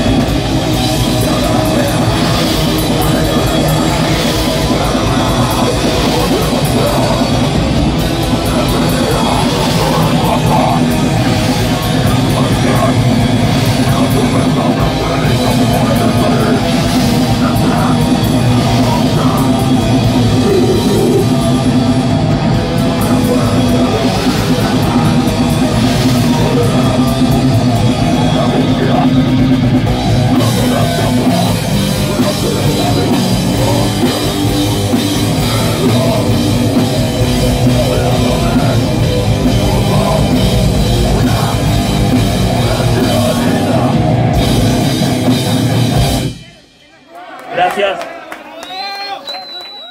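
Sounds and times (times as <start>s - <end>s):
bass guitar: 0.0s - 46.6s
pounding drums: 0.0s - 46.7s
distorted electric guitar: 0.0s - 46.8s.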